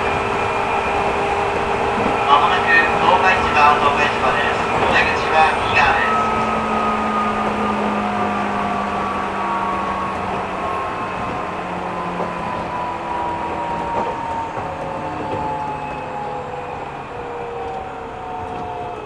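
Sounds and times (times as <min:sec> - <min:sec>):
electric train motor whine: 0:00.0 - 0:19.0
train wheels rumbling on track: 0:00.0 - 0:19.0.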